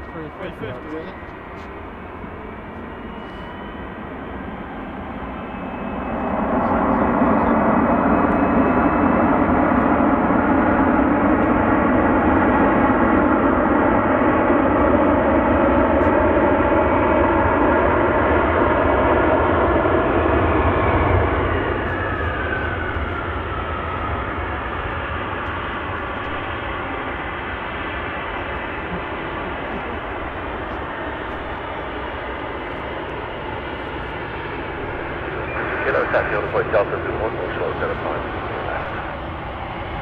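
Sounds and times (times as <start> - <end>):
jet engines roaring and whining: 0.0 - 40.0.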